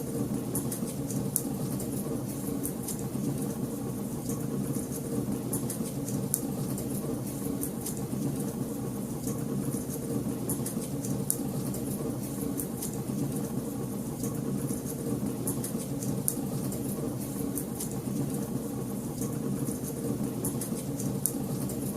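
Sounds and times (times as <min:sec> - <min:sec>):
fire crackling in fireplace: 0:00.0 - 0:21.9.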